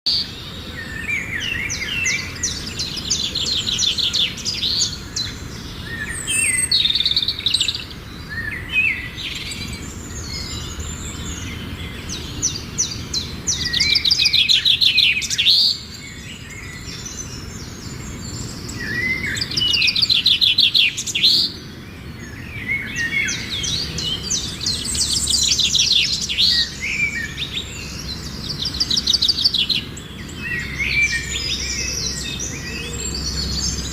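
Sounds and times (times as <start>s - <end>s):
songbirds trilling and chirping: 0.1s - 33.9s.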